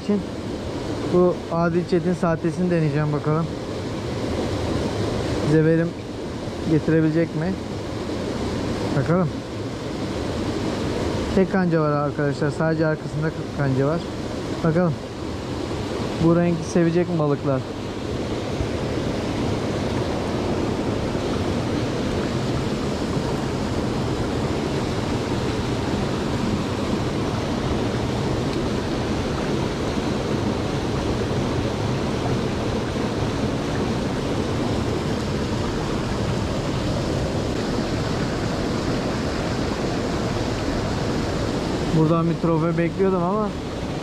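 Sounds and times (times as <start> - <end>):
rushing stream: 0.0 - 44.0.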